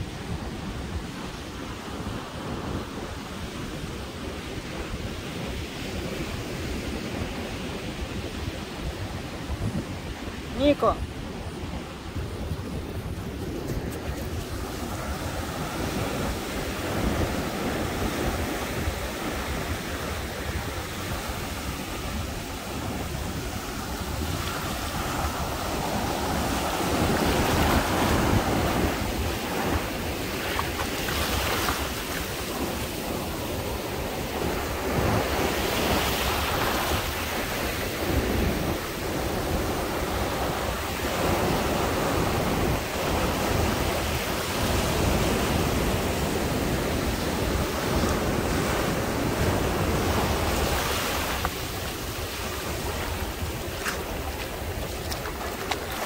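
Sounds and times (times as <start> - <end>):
ocean surf breaking on sand: 0.0 - 56.0
wind rumbling on microphone: 0.0 - 56.0.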